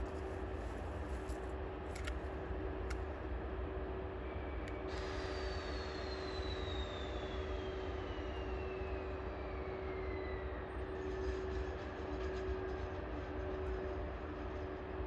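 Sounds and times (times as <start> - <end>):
electric locomotive hum: 0.0 - 15.0.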